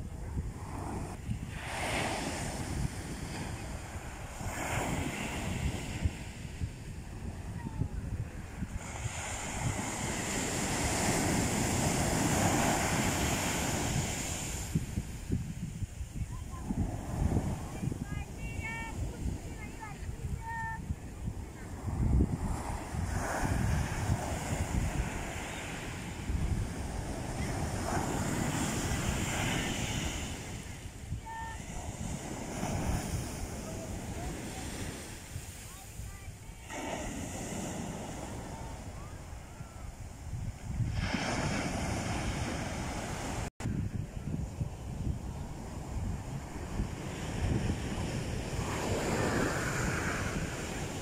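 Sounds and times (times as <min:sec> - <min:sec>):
wave breaking on beach: 0:00.0 - 0:43.8, 0:44.4 - 0:51.0.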